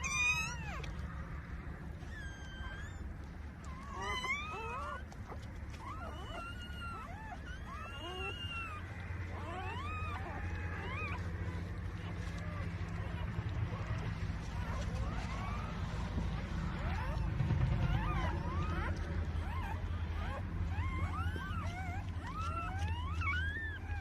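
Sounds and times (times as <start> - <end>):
puppies squealing and whining: 0.0 - 24.0
steady low hum: 0.0 - 24.0.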